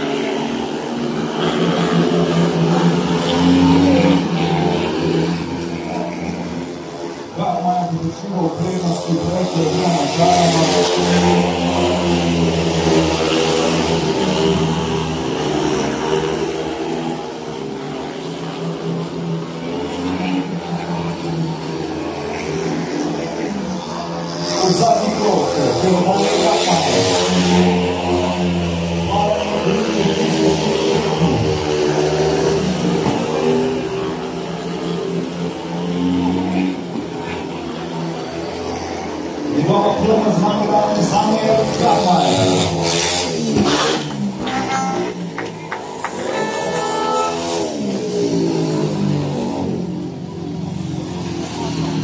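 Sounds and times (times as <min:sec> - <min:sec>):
motorcycle engines racing: 0:00.0 - 0:52.0.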